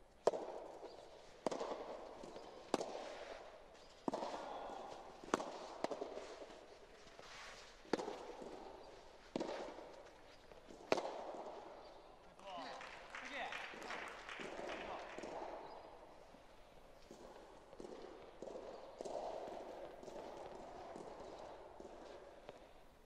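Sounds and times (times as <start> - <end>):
tennis ball struck by rackets: 0.2 - 12.1, 12.8 - 22.7.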